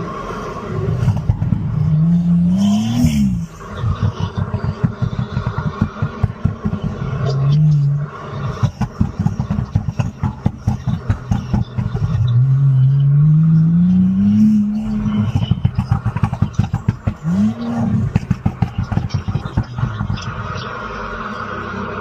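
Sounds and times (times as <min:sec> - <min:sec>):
car engine pulling hard: 0:00.0 - 0:22.0
choppy engine rumble: 0:00.0 - 0:22.0.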